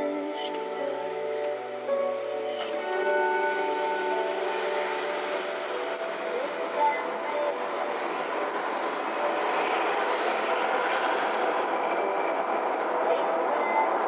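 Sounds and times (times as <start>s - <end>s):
car road and tyre noise: 0.0s - 14.0s.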